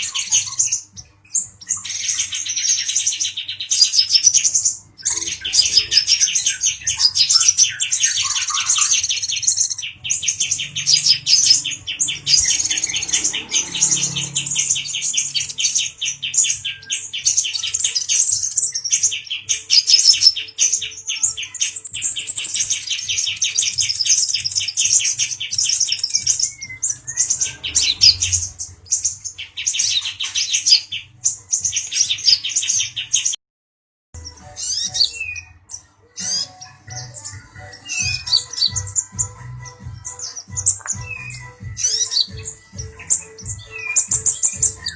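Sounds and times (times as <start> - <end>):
bird singing fast trills: 0.0 - 33.4, 34.2 - 44.9.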